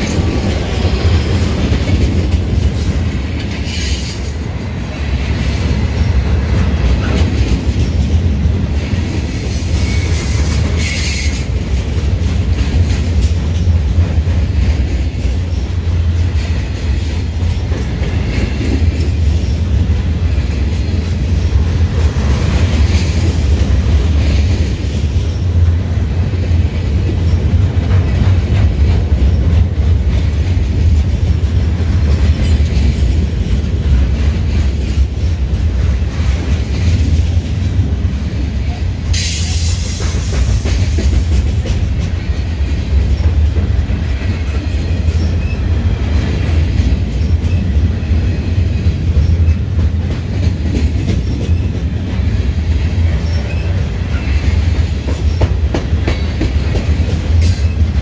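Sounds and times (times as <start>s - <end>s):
freight train rumbling past: 0.0s - 58.0s
steel wheels clattering on rails: 0.0s - 58.0s.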